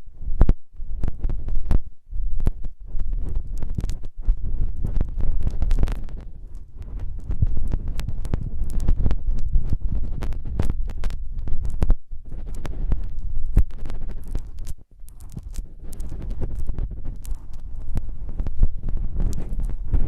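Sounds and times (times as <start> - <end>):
rubbing and crackling on microphone: 0.0 - 20.0.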